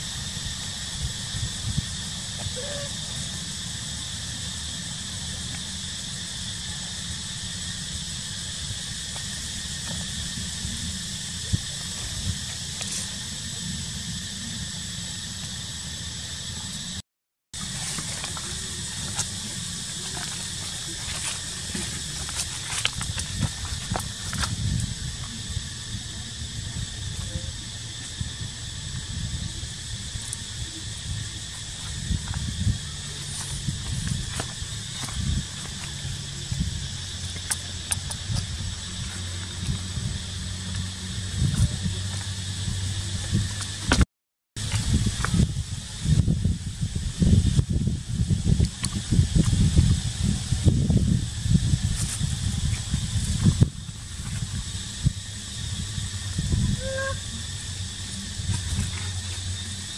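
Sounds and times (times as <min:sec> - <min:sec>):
high insect drone: 0:00.0 - 0:17.0, 0:17.6 - 0:44.0, 0:44.6 - 0:59.9
wind rumble on microphone: 0:00.0 - 0:17.0, 0:17.6 - 0:44.0, 0:44.6 - 0:59.9.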